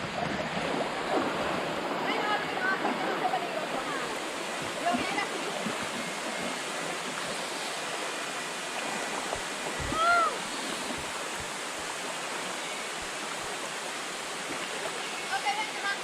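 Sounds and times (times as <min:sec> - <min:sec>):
river and waterfall rushing: 0:00.0 - 0:16.0.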